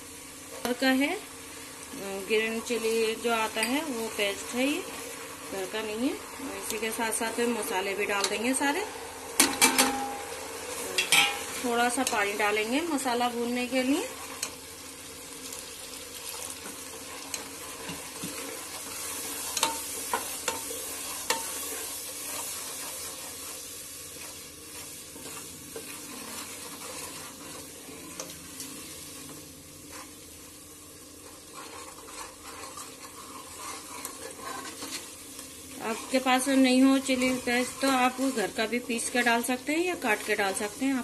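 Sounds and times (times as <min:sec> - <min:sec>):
spices sizzling in oil: 0:00.0 - 0:41.0.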